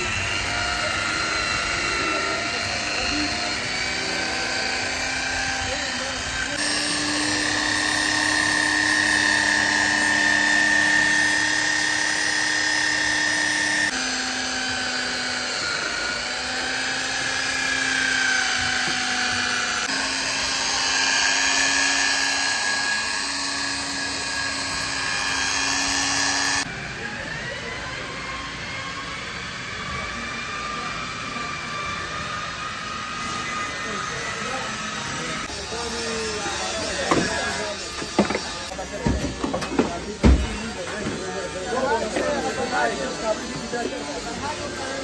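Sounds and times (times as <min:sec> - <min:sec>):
power tool motor whining: 0:00.0 - 0:45.0.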